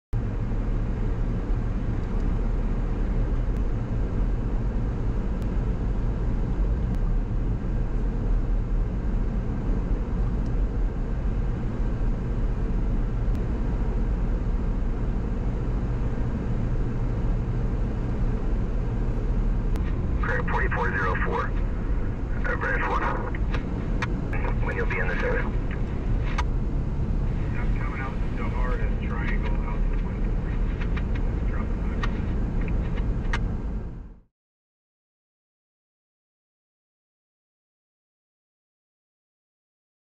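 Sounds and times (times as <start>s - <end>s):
vehicle driving on road: 0.2s - 34.2s.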